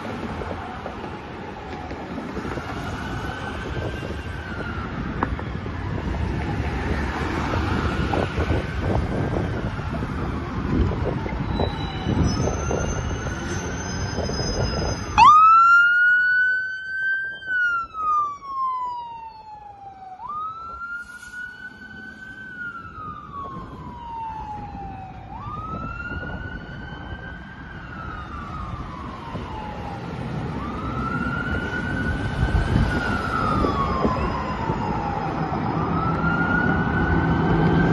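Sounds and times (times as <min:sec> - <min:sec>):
fire engine siren wailing: 0:00.0 - 0:37.9
wind: 0:00.0 - 0:37.9.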